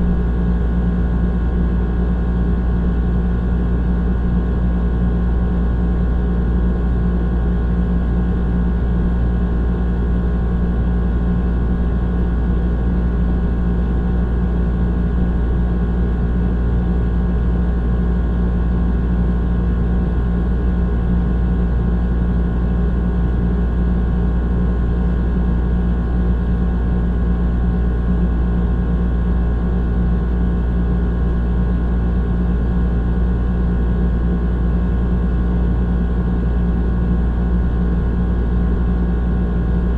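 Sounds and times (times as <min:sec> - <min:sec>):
air conditioner compressor hum: 0:00.0 - 0:39.9.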